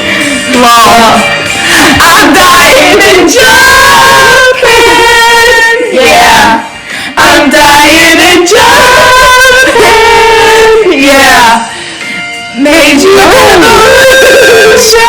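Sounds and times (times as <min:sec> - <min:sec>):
person singing long notes: 0:00.0 - 0:11.8, 0:12.6 - 0:15.0
backing music: 0:00.0 - 0:15.0.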